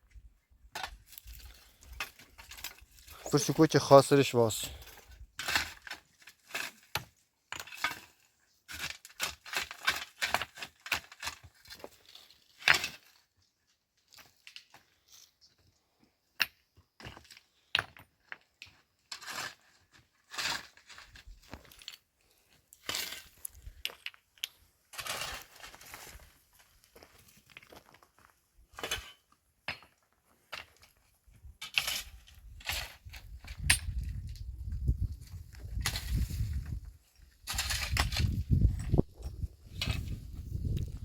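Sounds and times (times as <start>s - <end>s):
stones knocking and scraping: 0.7s - 13.3s, 16.3s - 41.0s.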